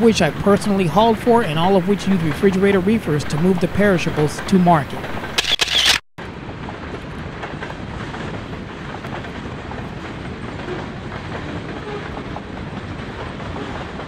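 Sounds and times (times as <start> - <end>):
train wheels on rail: 0.0 - 5.4, 6.2 - 14.0.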